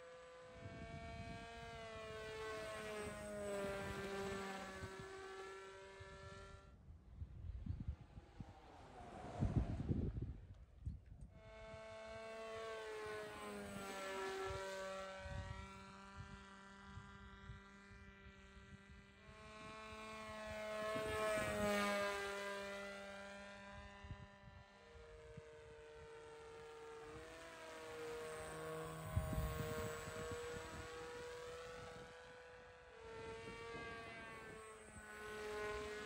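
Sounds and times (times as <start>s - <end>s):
model plane motor whining: 0.0s - 6.8s, 7.6s - 36.0s.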